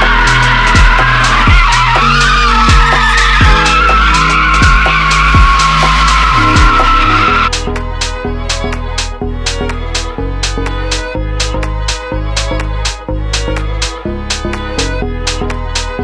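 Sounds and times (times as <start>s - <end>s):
background music with steady beat: 0.0s - 16.0s
tyres squealing: 0.0s - 16.0s.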